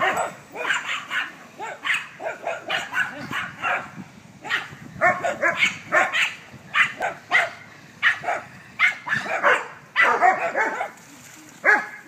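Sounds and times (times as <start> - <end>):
dogs barking: 0.0 - 11.0, 11.6 - 12.0.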